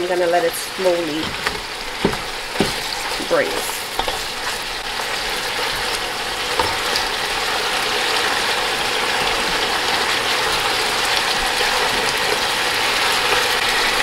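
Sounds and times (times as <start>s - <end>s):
stock sizzling and bubbling in pot: 0.0s - 14.0s.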